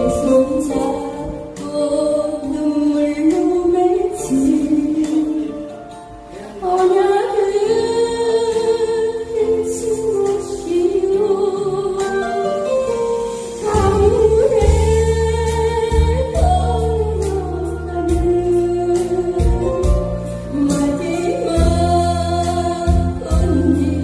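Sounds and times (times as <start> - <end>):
instrumental accompaniment: 0.0 - 24.0
woman singing into microphone: 0.0 - 24.0.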